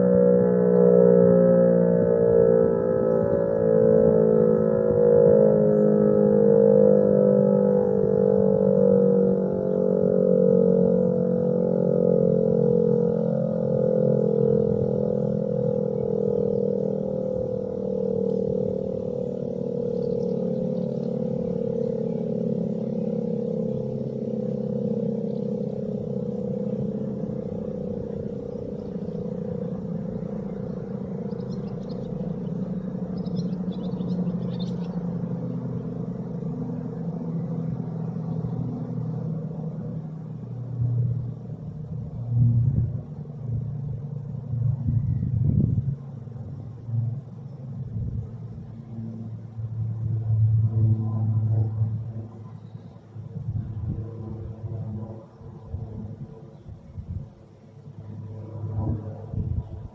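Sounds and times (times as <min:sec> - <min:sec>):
electric motor siren wailing: 0:00.0 - 0:59.9.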